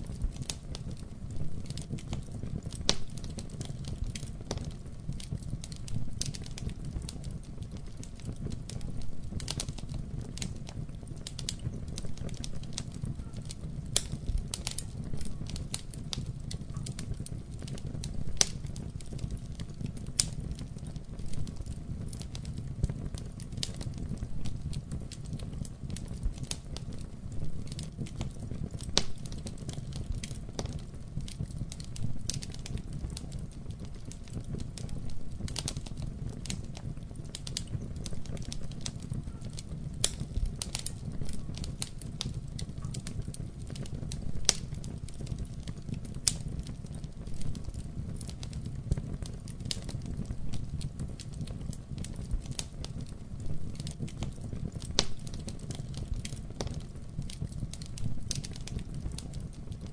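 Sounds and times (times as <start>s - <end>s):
fire crackling in fireplace: 0.0s - 59.9s.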